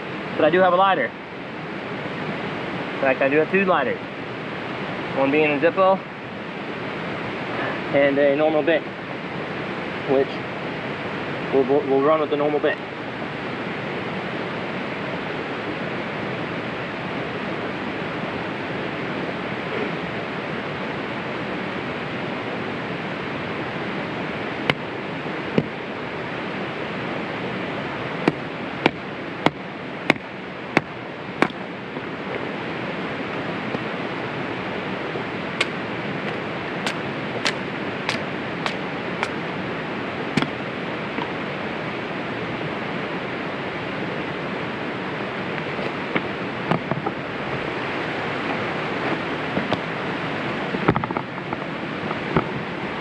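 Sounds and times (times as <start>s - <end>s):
steady rushing outdoor noise: 0.0s - 53.0s.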